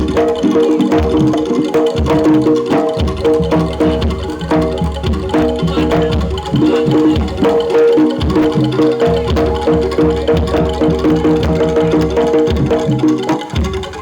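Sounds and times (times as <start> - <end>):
drums and gongs ensemble music: 0.0 - 14.0.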